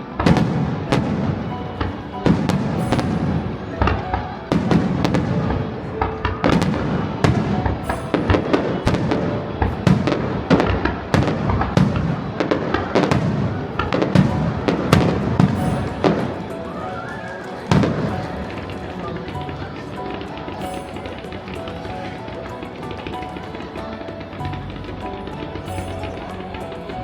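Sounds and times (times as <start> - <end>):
music: 0.0 - 27.0
fireworks bangs and crackles: 0.1 - 24.7.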